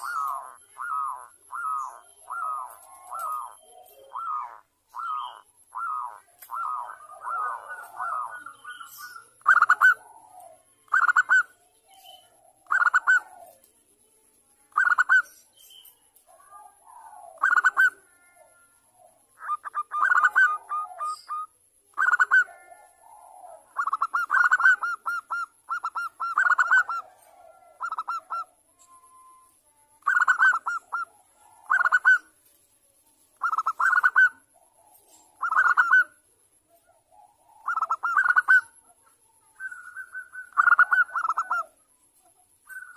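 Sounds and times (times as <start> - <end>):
doves cooing: 0.0 - 13.7, 16.2 - 29.4, 30.0 - 32.4, 33.4 - 41.9.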